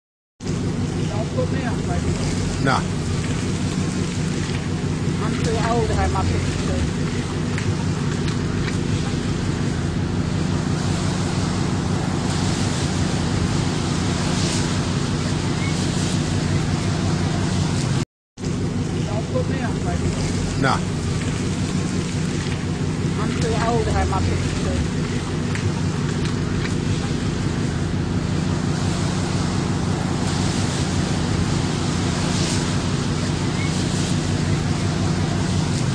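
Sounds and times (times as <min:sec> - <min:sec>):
low steady hum: 0:00.4 - 0:35.9.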